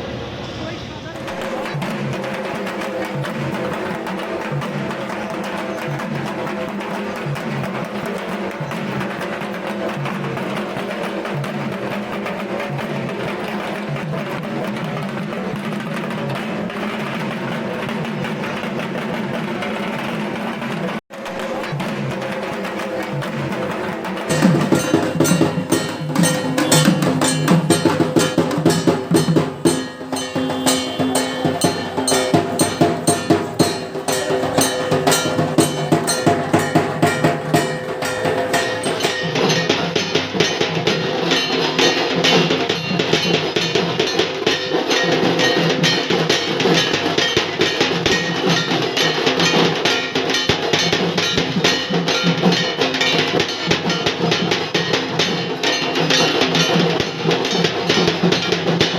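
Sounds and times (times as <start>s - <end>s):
clacking bell-like beat: 1.2s - 58.9s
fast percussive drum music: 1.2s - 58.9s.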